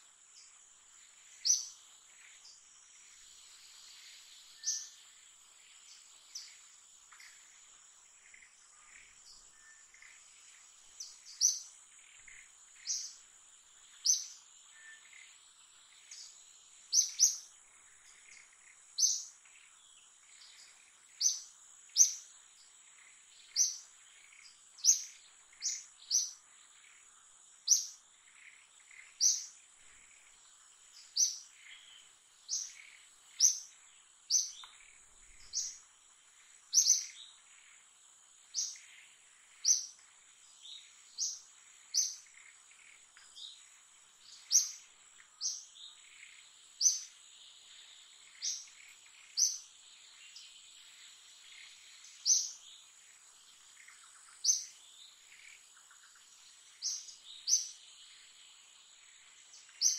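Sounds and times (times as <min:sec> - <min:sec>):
insect drone: 0:00.0 - 0:59.9
bird chirping: 0:00.4 - 0:59.9.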